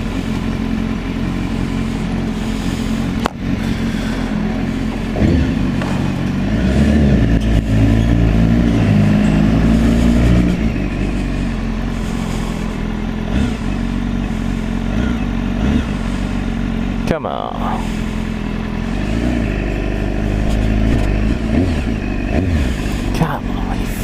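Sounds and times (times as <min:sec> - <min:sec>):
motorcycle engine under way: 0:00.0 - 0:24.0.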